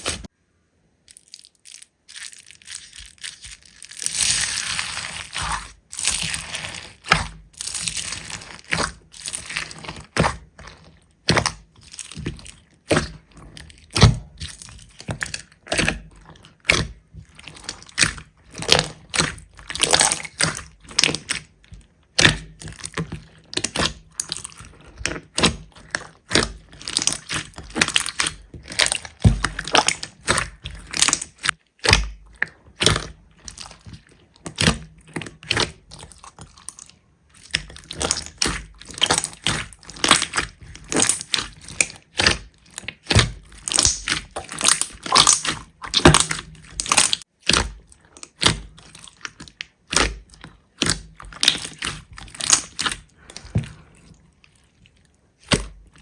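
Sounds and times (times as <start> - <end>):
slime crackling and popping: 1.1 - 53.8.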